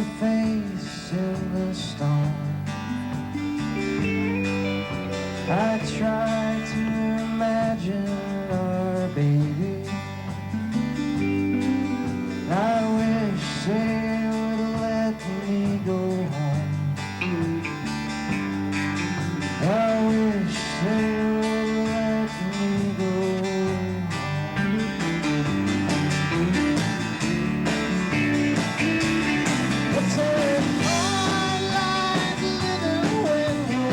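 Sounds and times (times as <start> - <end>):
country band playing: 0.0 - 33.9
sliding lead guitar line: 0.0 - 33.9.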